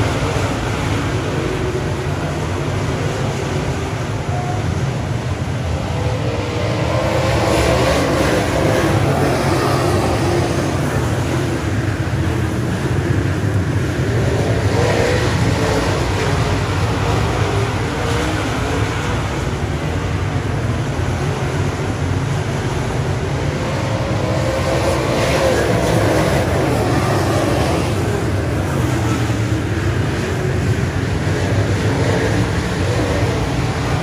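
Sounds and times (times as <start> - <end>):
race car engines running hard: 0.0 - 34.0.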